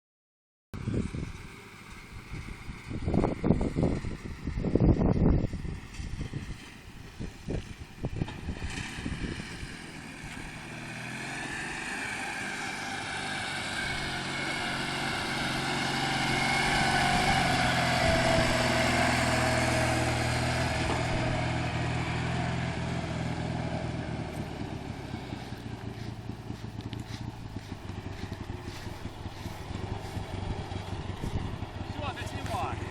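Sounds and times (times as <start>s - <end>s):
engine whine: 0.8s - 32.9s
flat-twin engine running: 0.8s - 32.9s.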